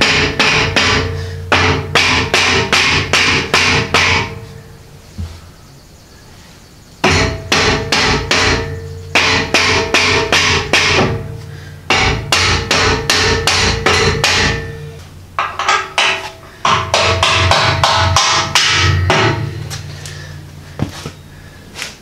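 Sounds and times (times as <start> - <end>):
hammer striking steel: 0.0 - 4.6, 7.0 - 20.2.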